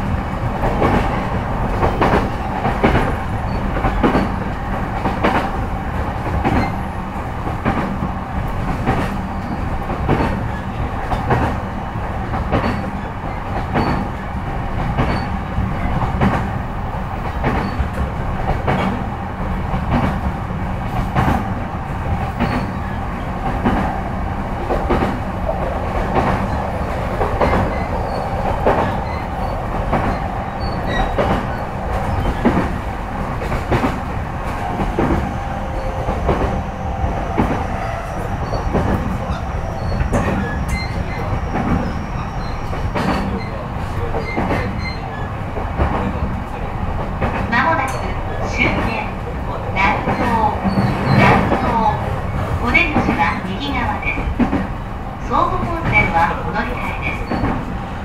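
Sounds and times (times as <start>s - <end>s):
steady train hum: 0.0s - 58.0s
train wheels clacking over rail joints: 0.6s - 6.8s, 7.4s - 11.6s, 12.2s - 14.2s, 14.8s - 16.5s, 17.2s - 19.0s, 19.7s - 22.8s, 24.6s - 49.0s, 49.8s - 54.8s.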